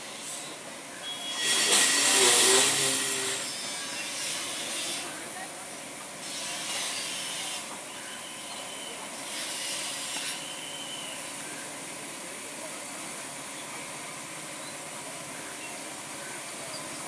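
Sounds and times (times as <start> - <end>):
electric train hissing and humming: 0.0 - 17.0.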